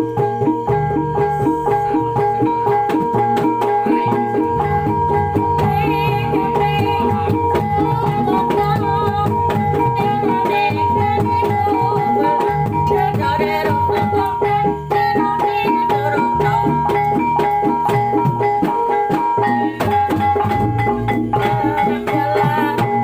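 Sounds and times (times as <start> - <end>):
hand drums: 0.0 - 23.0
wavering high melody: 0.0 - 23.0.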